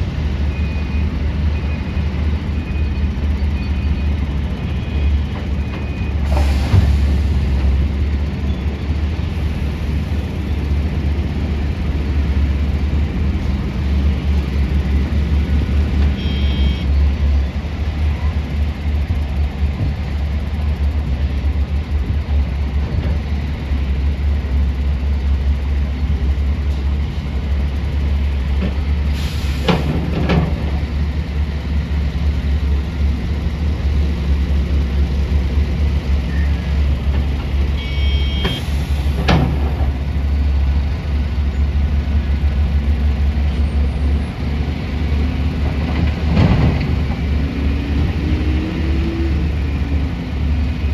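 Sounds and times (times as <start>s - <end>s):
heavy diesel machinery rumbling: 0.0s - 50.9s.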